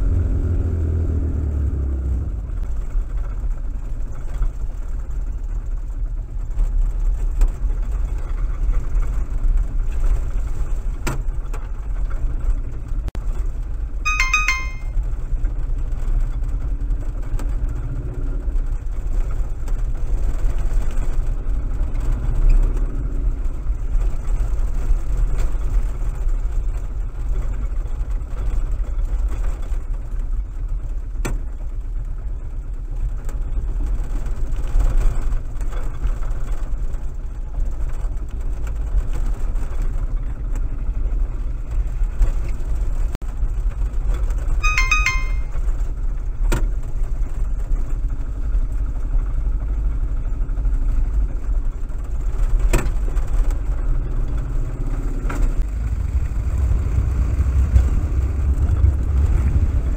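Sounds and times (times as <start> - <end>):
vehicle engine low rumble: 0.0 - 14.0, 15.2 - 44.6, 45.8 - 59.9.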